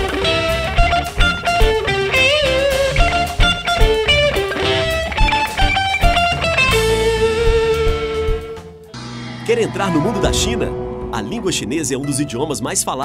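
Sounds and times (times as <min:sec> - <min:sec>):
bass guitar: 0:00.0 - 0:12.7
electric guitar lead melody: 0:00.0 - 0:12.7.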